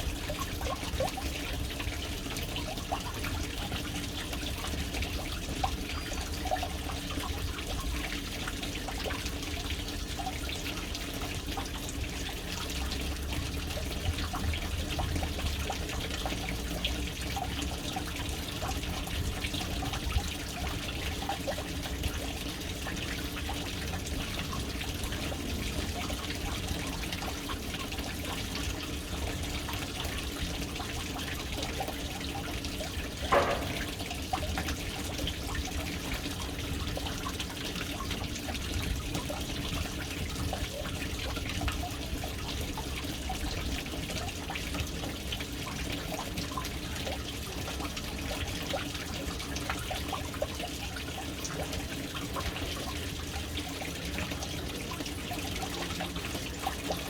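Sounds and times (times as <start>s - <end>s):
water trickling into tank: 0.0s - 57.0s.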